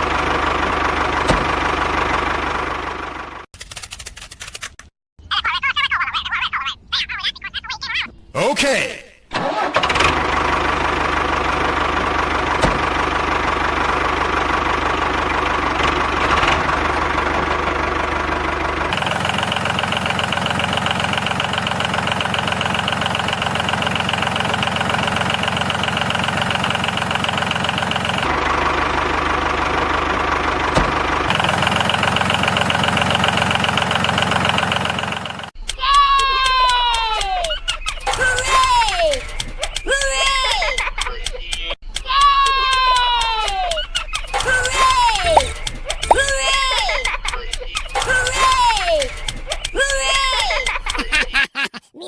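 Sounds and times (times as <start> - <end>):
small tractor engine running: 0.0 - 4.7, 9.4 - 51.2.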